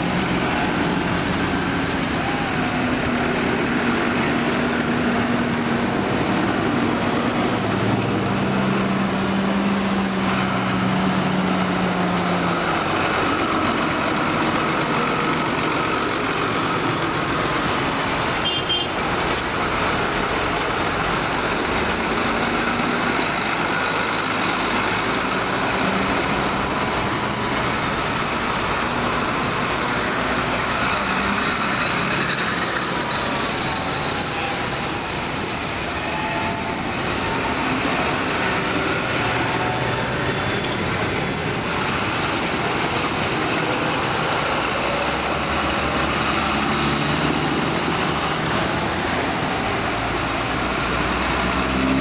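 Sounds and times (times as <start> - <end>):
tractors driving past: 0.0 - 52.0.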